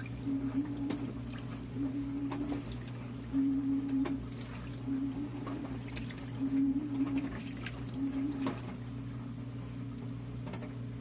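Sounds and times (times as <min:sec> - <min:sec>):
water and clothes sloshing: 0:00.0 - 0:08.8
washing machine motor humming: 0:00.0 - 0:11.0.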